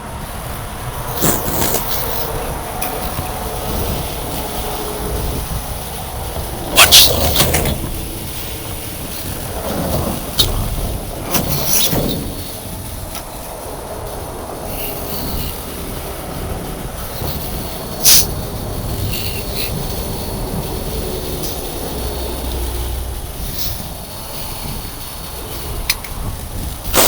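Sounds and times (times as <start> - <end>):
tow truck engines rumbling: 0.0 - 27.0.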